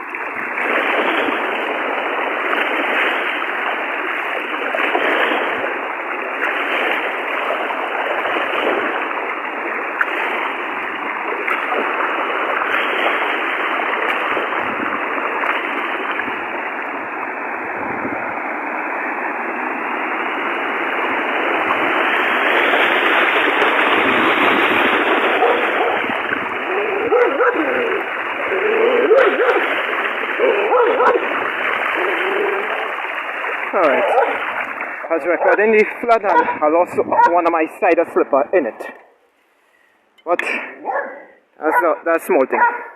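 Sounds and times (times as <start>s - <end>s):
floodwater rushing: 0.0s - 42.9s.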